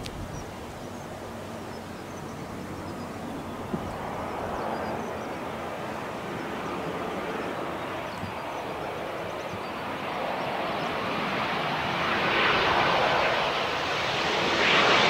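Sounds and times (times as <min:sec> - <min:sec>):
jet airliner rushing: 0:00.0 - 0:15.0.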